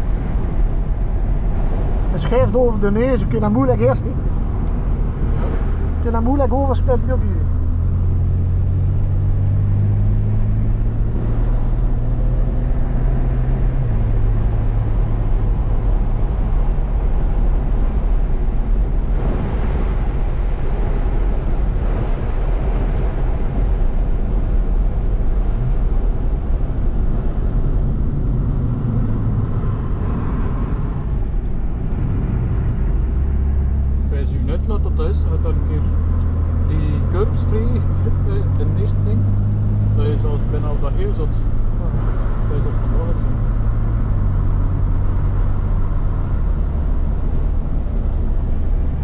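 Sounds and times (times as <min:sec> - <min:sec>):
car engine from inside cabin: 0:00.0 - 0:49.0
road noise: 0:00.0 - 0:49.0.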